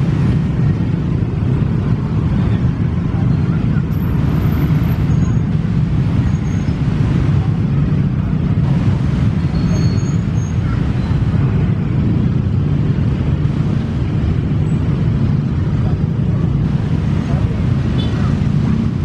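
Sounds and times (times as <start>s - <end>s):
heavy vehicles passing: 0.0s - 19.0s.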